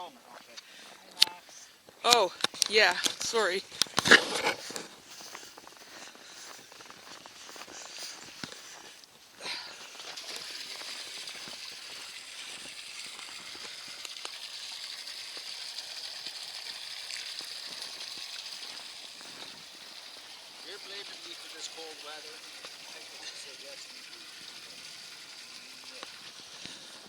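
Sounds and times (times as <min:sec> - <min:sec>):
water running into a trough: 0:02.0 - 0:27.0.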